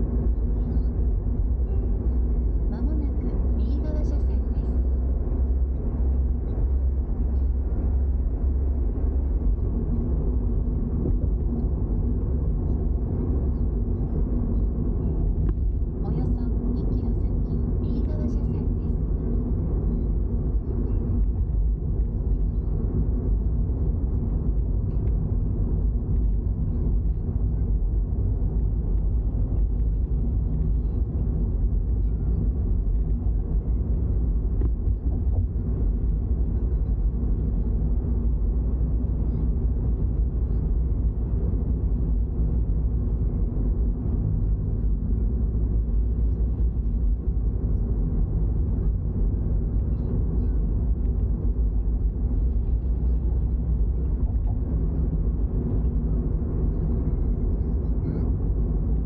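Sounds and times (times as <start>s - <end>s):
car engine droning: 0.0s - 59.0s
road rumble: 0.0s - 59.0s.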